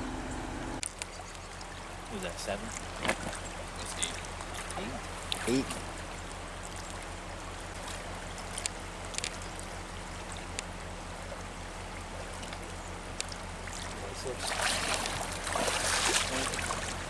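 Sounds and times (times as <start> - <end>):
low steady hum: 0.0 - 17.0
creek water running: 0.8 - 17.0.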